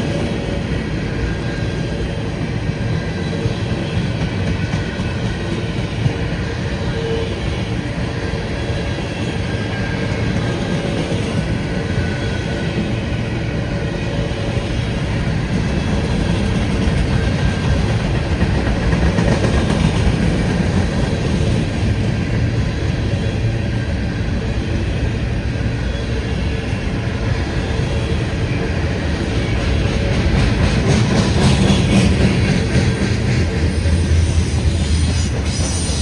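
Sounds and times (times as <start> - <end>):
freight train wheels rumbling on rails: 0.0 - 36.0.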